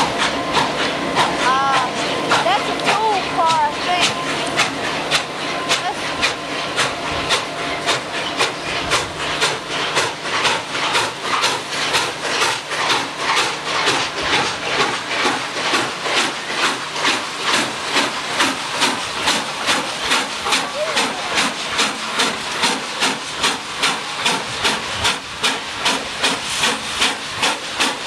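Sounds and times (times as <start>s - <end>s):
steam locomotive exhaust chuffing: 0.0s - 28.0s
hiss of steam: 5.5s - 28.0s.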